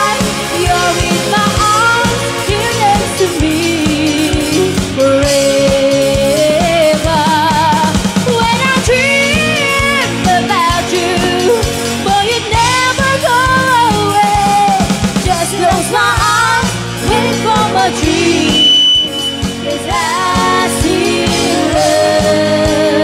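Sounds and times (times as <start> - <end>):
live band playing: 0.0 - 23.0
steady drum beat: 0.0 - 23.0
women singing: 0.0 - 23.0.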